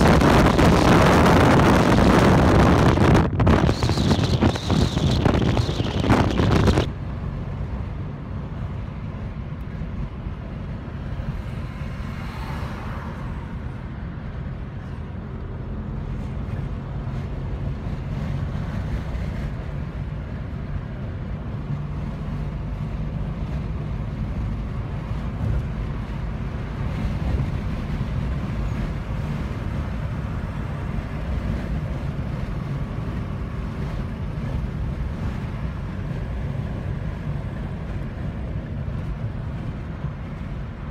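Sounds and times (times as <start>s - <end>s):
car cabin road and engine rumble: 0.0s - 40.9s.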